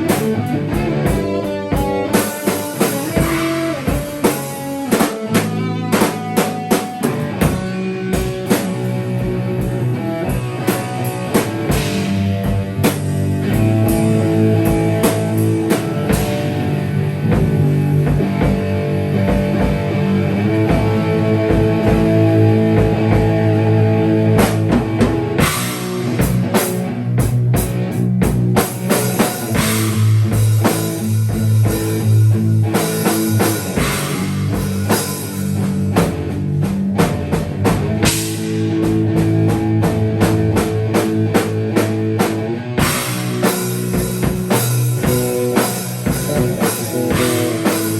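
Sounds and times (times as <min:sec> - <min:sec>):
bass guitar notes: 0:00.0 - 0:47.9
drum kit playing: 0:00.0 - 0:47.9
electric guitar: 0:00.0 - 0:47.9.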